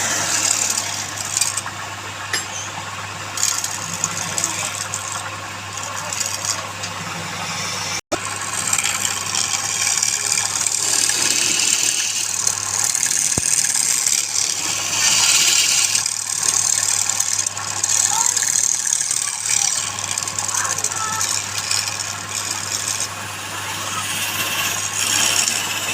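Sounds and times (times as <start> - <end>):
woodworking machine running: 0.0 - 25.9.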